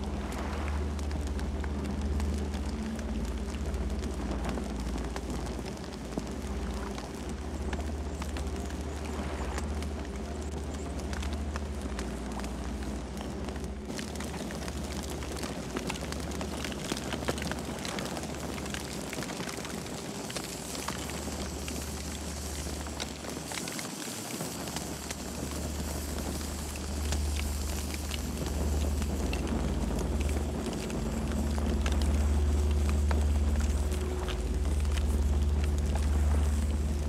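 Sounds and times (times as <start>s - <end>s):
campfire crackling and popping: 0.0s - 37.0s
low rumble: 0.0s - 37.0s.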